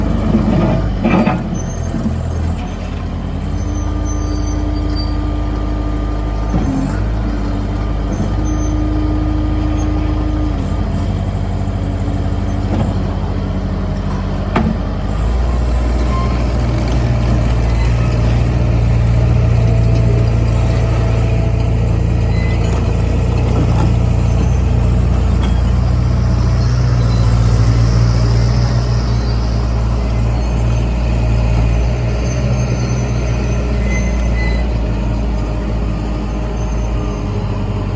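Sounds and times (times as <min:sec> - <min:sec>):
loader engine running: 0:00.0 - 0:37.9.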